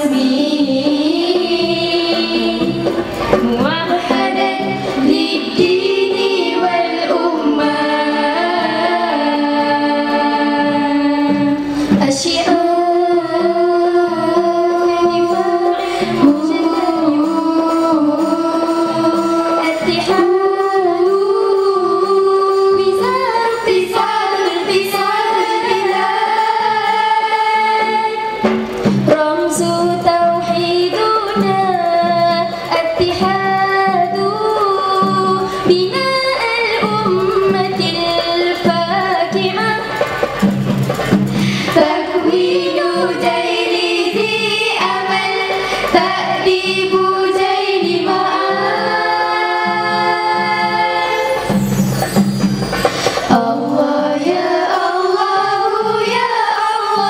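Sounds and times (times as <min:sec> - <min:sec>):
girls singing together: 0:00.0 - 0:40.5, 0:41.4 - 0:51.8, 0:52.8 - 0:57.0
hand drum beat: 0:00.0 - 0:57.0.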